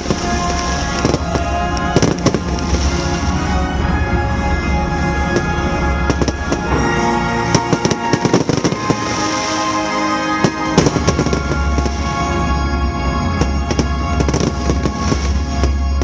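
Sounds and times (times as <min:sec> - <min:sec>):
fireworks bangs and crackles: 0:00.0 - 0:03.9, 0:05.3 - 0:16.0
music playing: 0:00.0 - 0:16.0.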